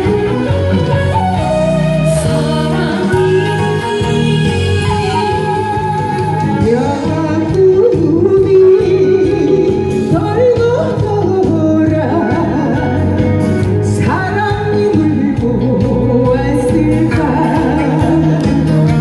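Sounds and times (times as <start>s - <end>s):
musical accompaniment: 0.0s - 19.0s
person singing: 0.0s - 19.0s.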